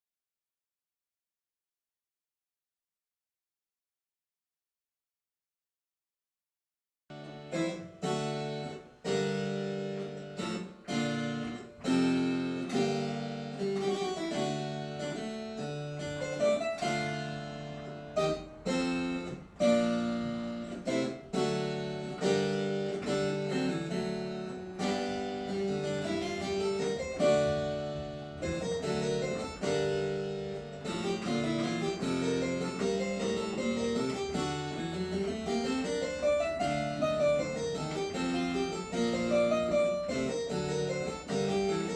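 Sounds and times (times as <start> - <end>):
plucked keyboard dance piece: 7.1 - 41.9.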